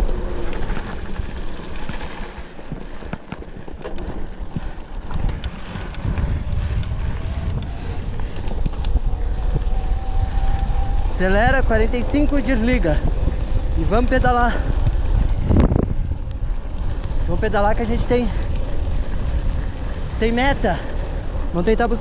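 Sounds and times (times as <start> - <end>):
bike rattling over rough ground: 0.0 - 22.0
wind buffeting microphone: 0.0 - 22.0.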